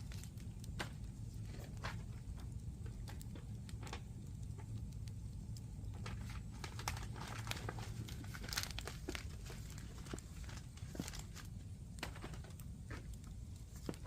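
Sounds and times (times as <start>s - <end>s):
low rumble: 0.0s - 14.0s
wood fire crackling: 0.0s - 14.0s.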